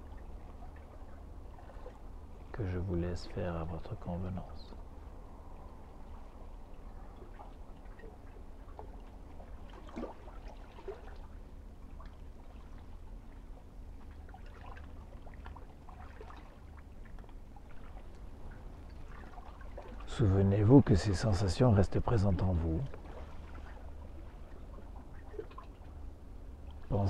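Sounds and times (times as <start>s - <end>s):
steady low rumble: 0.0s - 27.0s
water splashes: 0.0s - 27.0s.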